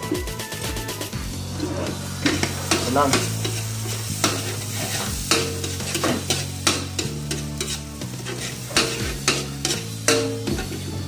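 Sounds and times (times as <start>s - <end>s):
food sizzling in hot oil: 0.5s - 11.0s
metal ladle scraping wok: 1.2s - 11.0s.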